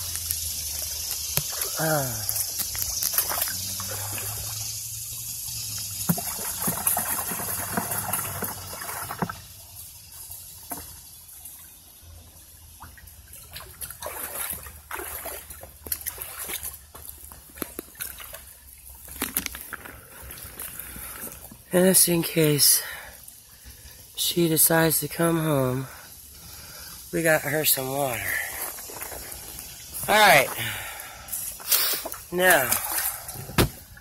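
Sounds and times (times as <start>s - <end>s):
water pouring in a trickle: 0.0s - 34.0s.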